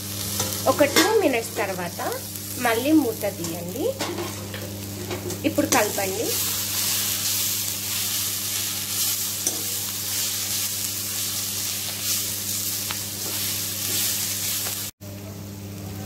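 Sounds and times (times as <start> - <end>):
leaves sizzling in oil: 0.0 - 16.0.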